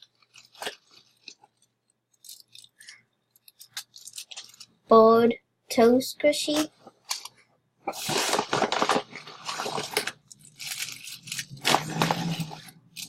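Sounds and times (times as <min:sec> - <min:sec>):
squishy toys rustling and crinkling: 0:00.0 - 0:04.9, 0:06.5 - 0:13.0.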